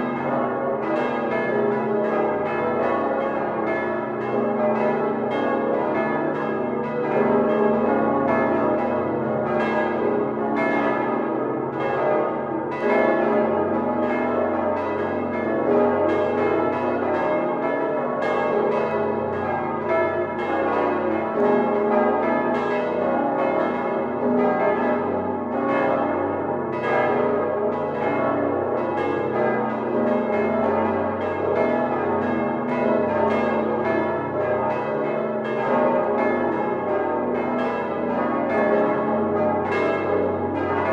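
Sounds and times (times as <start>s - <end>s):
large church bells pealing: 0.0s - 40.9s.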